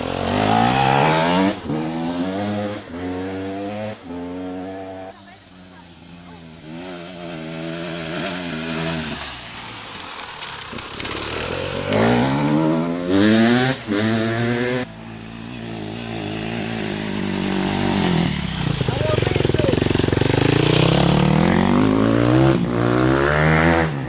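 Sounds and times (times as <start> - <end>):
dirt bike engine revving: 0.0 - 9.6, 10.2 - 24.0.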